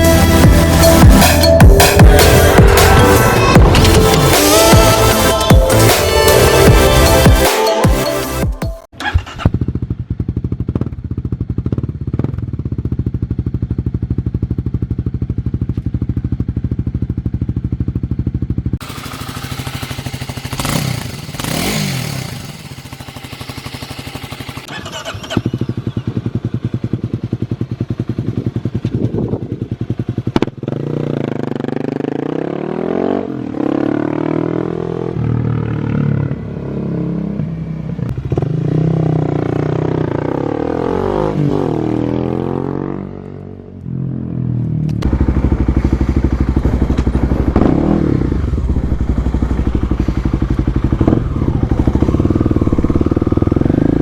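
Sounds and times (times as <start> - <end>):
motorcycle engine revving: 0.0 - 7.5, 8.9 - 54.0.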